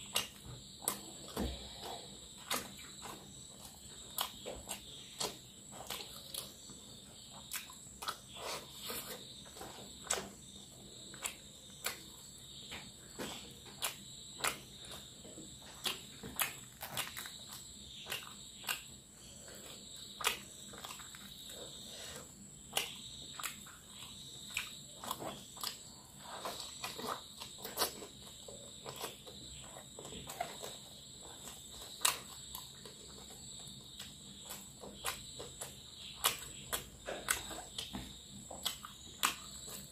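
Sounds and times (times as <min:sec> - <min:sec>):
mouth smacking and chewing: 0:00.0 - 0:12.5, 0:13.2 - 0:39.9
fingers squishing rice: 0:00.0 - 0:39.9.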